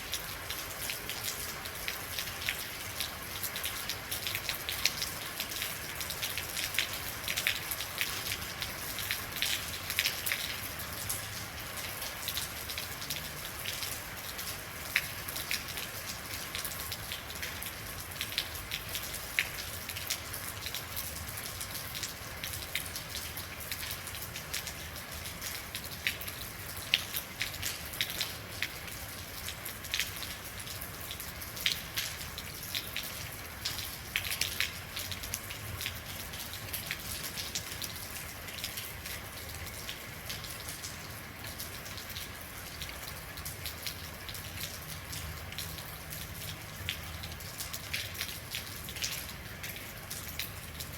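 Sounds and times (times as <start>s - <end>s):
raindrops ticking close by: 0.0s - 50.9s
steady rain falling: 0.0s - 50.9s.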